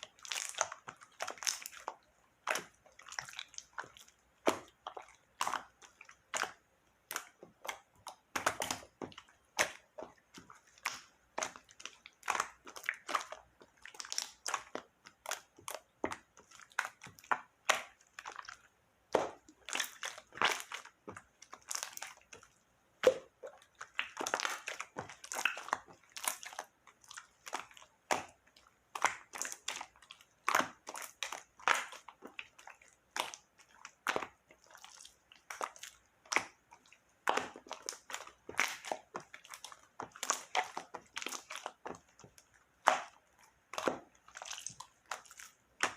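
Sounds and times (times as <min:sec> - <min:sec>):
slime squished by hand: 0:00.0 - 0:45.9.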